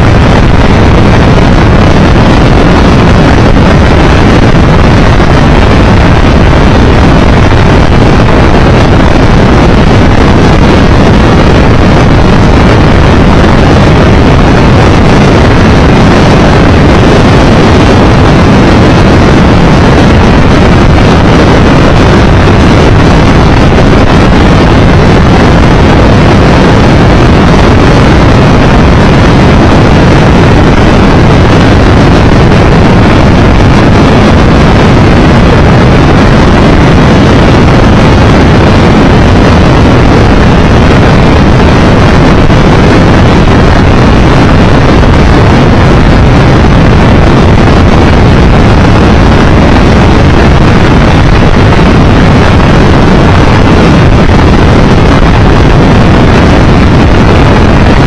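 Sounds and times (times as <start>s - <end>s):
motorcycle engine drone: 0.0s - 58.0s
wind rushing over microphone: 0.0s - 58.0s.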